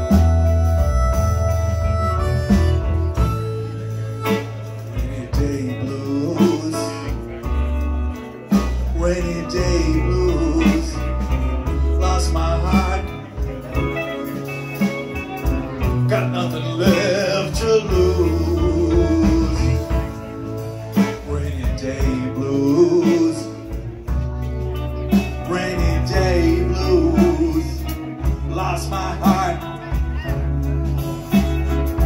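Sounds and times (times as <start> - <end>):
blues band playing: 0.0 - 32.0.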